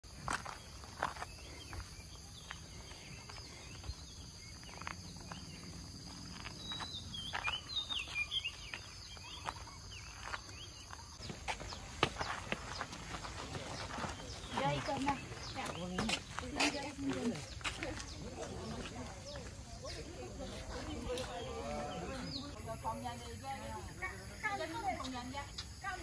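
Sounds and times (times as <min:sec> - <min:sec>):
insects droning: 0:00.1 - 0:26.0.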